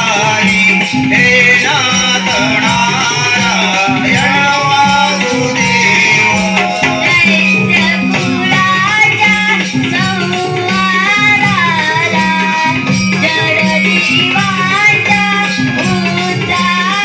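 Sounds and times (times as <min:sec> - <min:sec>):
devotional singing with instruments: 0:00.0 - 0:17.0
steady drum beat: 0:00.0 - 0:17.0.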